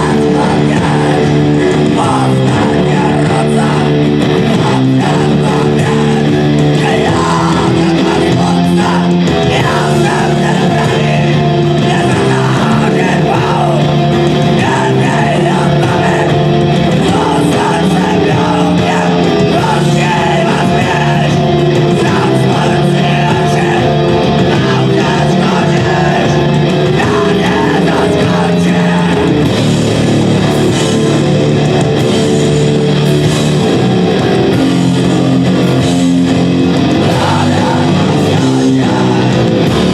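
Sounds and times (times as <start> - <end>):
person singing: 0.0 - 29.7, 34.5 - 39.9
live rock band playing: 0.0 - 39.9.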